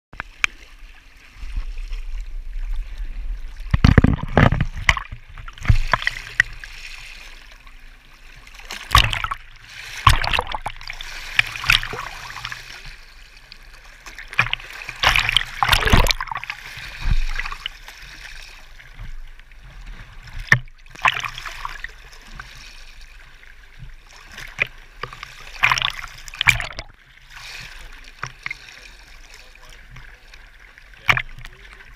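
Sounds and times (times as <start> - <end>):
gurgling water wash: 0.2 - 31.9
lake waves sloshing and splashing: 0.2 - 31.9.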